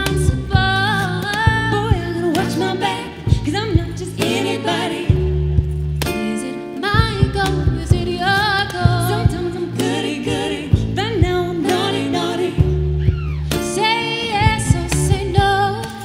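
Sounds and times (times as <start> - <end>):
plucked double bass: 0.0 - 16.0
women singing with vibrato: 0.0 - 16.0.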